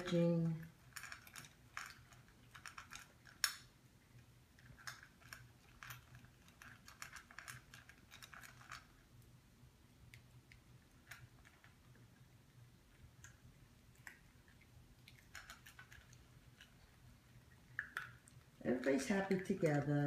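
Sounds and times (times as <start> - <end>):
pets crunching dry food: 0.0 - 9.4, 10.0 - 20.0.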